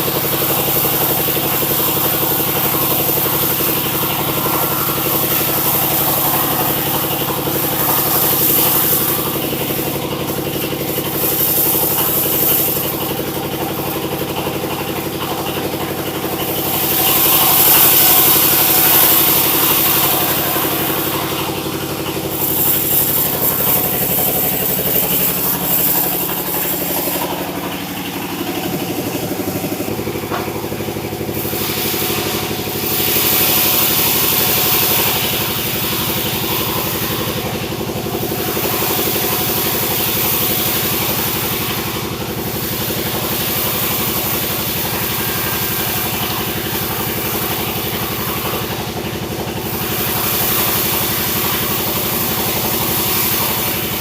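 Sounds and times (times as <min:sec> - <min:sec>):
machinery hiss: 0:00.0 - 0:54.0
sawmill engine drone: 0:00.0 - 0:54.0.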